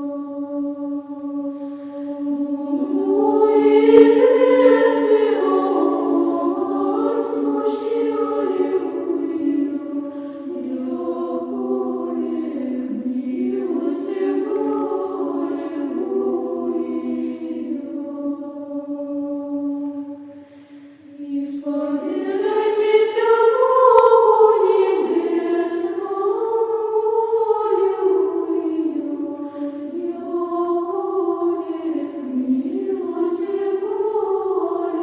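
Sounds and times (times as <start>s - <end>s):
choir singing a slow chant: 0.0s - 35.0s.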